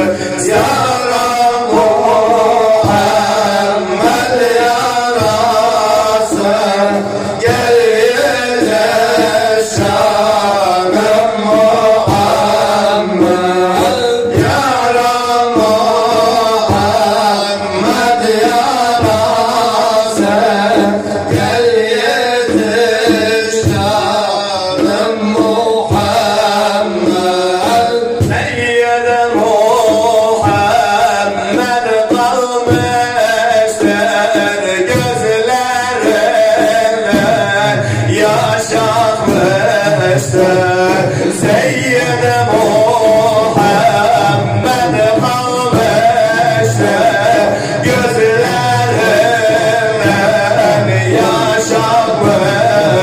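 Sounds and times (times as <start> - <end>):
man singing through a microphone: 0.0 - 53.0
steady drum beat: 0.0 - 53.0.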